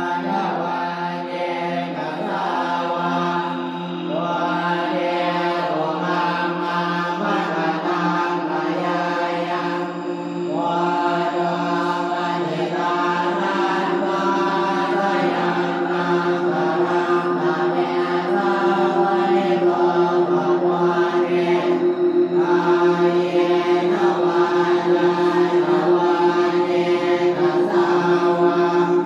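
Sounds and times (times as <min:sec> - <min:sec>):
chanted vocals: 0:00.0 - 0:29.0
steady drone: 0:00.0 - 0:29.0
regular pulsing: 0:01.3 - 0:29.0.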